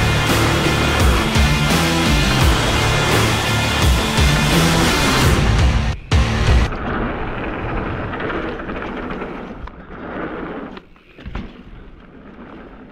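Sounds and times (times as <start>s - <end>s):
bike tyres rumbling on trail: 0.0s - 12.9s.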